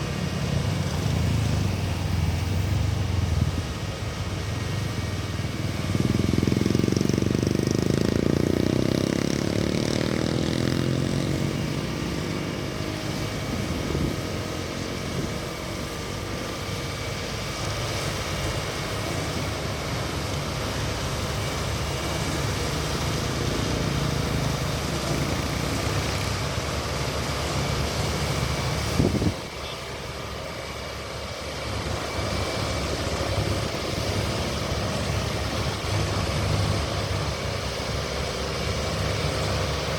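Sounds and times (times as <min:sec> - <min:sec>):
road roller engine running: 0:00.0 - 0:39.9.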